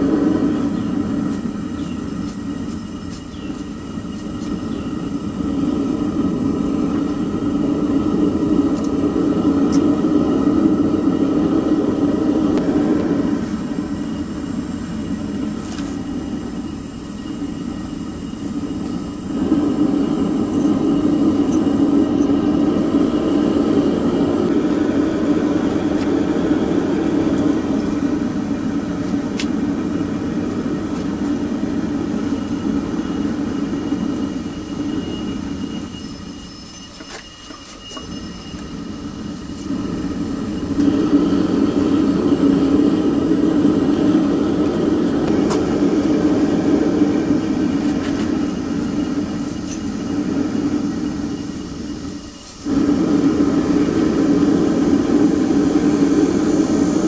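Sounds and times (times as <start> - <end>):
furnace burner roaring: 0.0 - 57.0.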